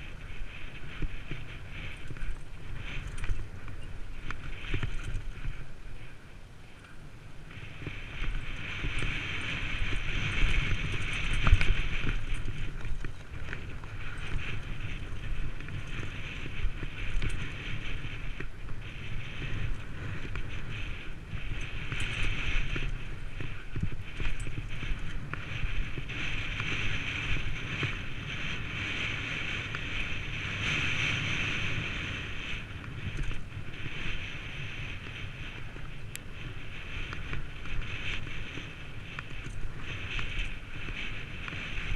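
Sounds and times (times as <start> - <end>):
bike rattling over stones: 0.0 - 6.2, 6.9 - 41.9
wind rushing over microphone: 0.0 - 41.9.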